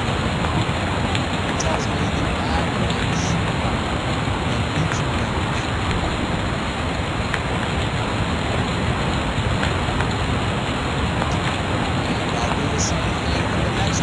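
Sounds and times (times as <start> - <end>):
loud steady hiss: 0.0 - 14.0.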